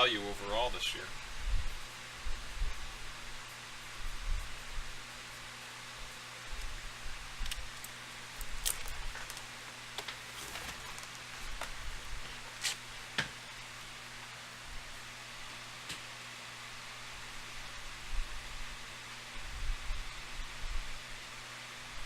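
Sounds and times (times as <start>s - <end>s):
background hiss and hum: 0.0s - 22.0s.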